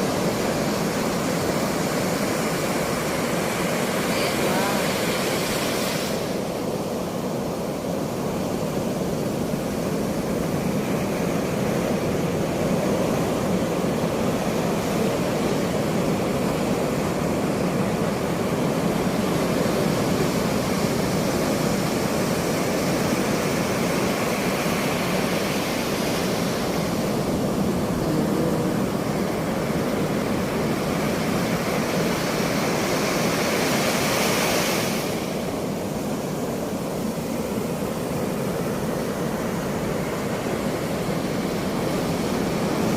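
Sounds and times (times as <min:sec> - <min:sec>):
ocean waves breaking: 0:00.0 - 0:42.9.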